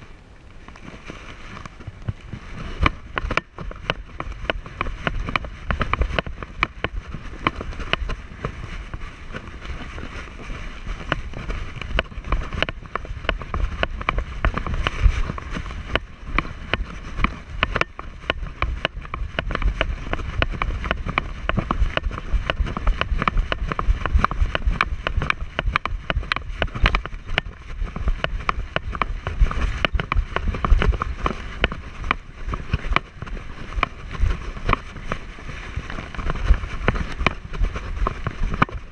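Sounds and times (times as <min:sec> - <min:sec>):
paws crunching on gravel: 0:00.0 - 0:38.9
wind rumble on microphone: 0:00.0 - 0:38.9.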